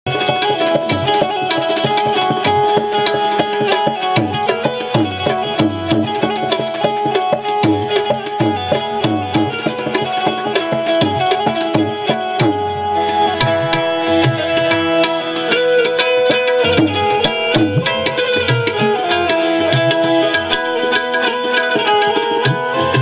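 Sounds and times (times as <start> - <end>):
tabla playing: 0.0 - 23.0
sustained melody notes: 0.1 - 23.0.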